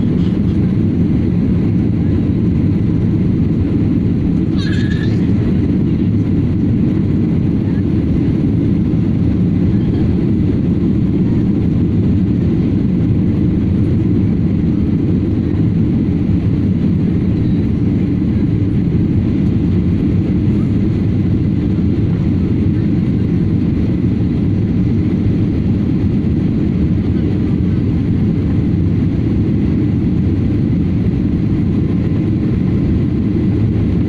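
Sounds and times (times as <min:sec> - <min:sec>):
airplane rumble: 0:00.0 - 0:34.0.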